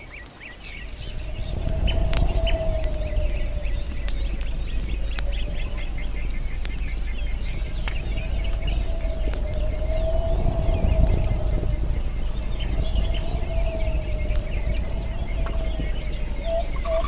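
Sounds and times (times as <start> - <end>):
campfire crackling and popping: 0.0 - 17.0
small birds chirping: 0.0 - 17.0
low steady rumble: 0.7 - 17.0.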